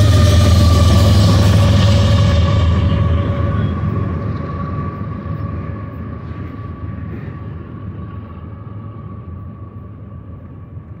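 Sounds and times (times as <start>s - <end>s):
diesel locomotives rumbling: 0.0s - 11.0s
steady whine: 0.0s - 11.0s.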